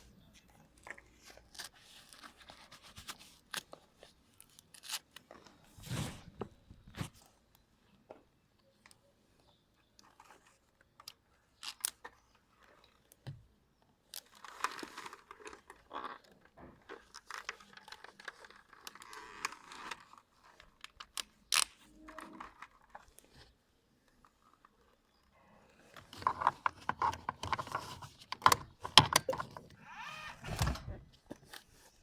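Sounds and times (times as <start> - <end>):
rustling and crinkling: 0.0 - 32.0.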